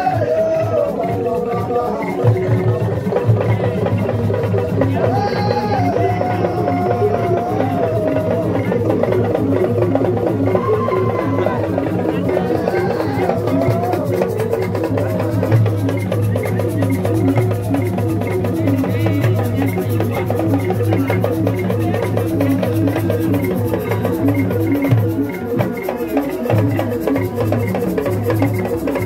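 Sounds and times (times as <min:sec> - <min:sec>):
drum ensemble playing fast rhythm: 0:00.0 - 0:29.0.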